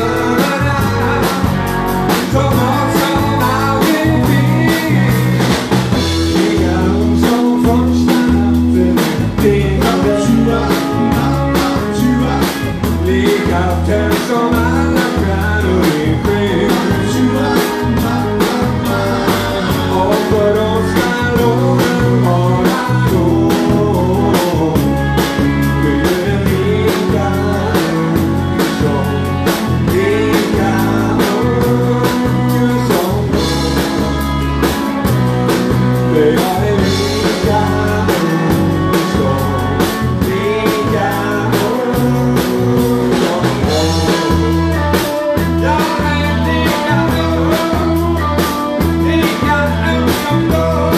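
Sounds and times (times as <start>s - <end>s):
bass line: 0.0s - 50.9s
drum kit beat: 0.0s - 50.9s
electric guitar: 0.0s - 50.9s
man singing: 0.0s - 50.9s.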